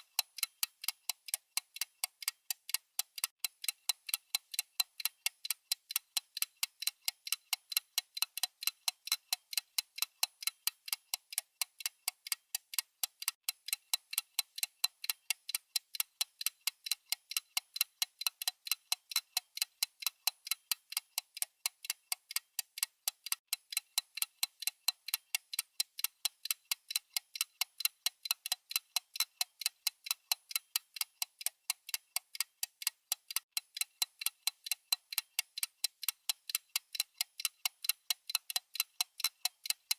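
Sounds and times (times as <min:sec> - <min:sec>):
fast clock ticking: 0:00.0 - 0:39.9.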